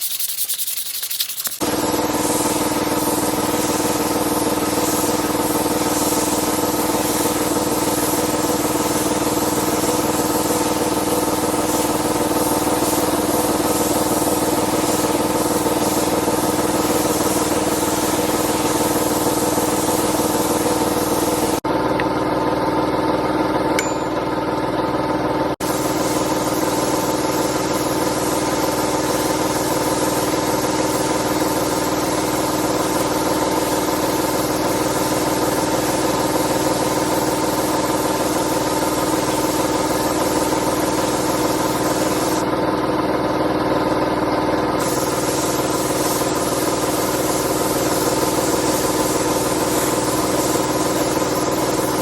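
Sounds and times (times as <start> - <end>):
motor running steadily: 1.6 - 52.0.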